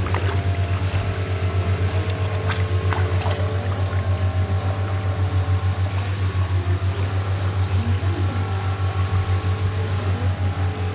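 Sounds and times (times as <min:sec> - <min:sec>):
pulsing pump hum: 0:00.0 - 0:10.9
water churning in foot bath: 0:00.0 - 0:10.9.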